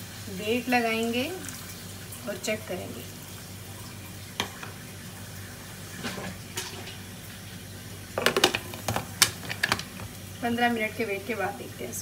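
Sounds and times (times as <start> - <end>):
water pouring into pot: 0.0 - 10.4.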